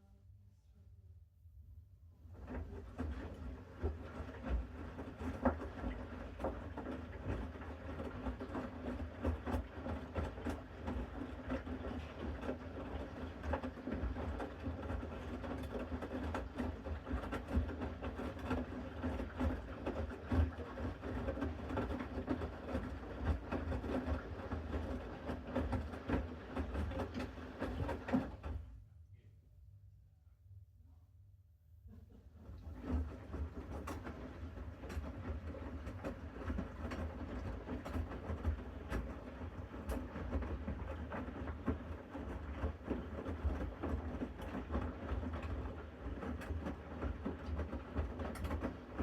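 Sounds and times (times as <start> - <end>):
washing machine motor hum: 2.1 - 28.9, 31.8 - 49.0
wet laundry tumbling in drum: 2.3 - 28.7, 32.3 - 49.0.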